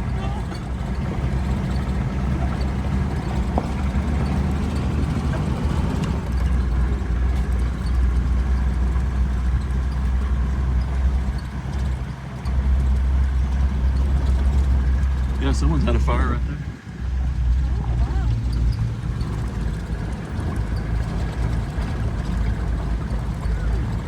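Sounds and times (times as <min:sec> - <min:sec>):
vehicle engine humming: 0:00.0 - 0:24.0
vehicle rumbling over road: 0:00.0 - 0:24.0.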